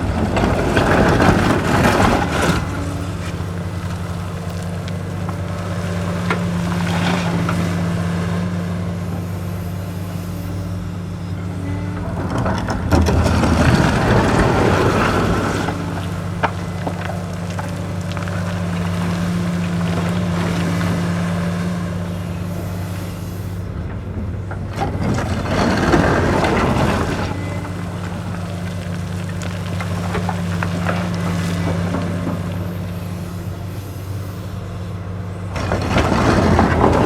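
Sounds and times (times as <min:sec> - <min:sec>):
gravel pouring into truck: 0:00.0 - 0:10.3, 0:12.2 - 0:23.6, 0:24.7 - 0:34.6, 0:35.5 - 0:37.0
heavy diesel engines running: 0:00.0 - 0:37.0.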